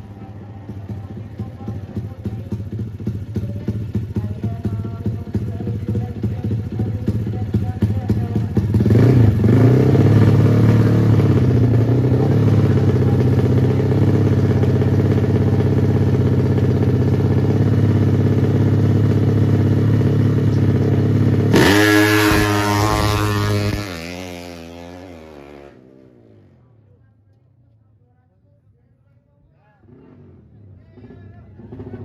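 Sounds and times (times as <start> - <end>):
motorcycle engine revving: 0.0 - 26.9, 29.8 - 32.0.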